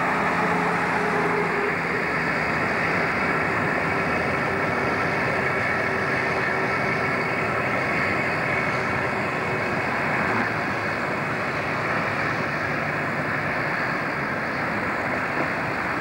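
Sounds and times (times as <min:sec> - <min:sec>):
diesel railcar engine pulling away: 0:00.0 - 0:16.0
steady rushing noise: 0:00.0 - 0:16.0.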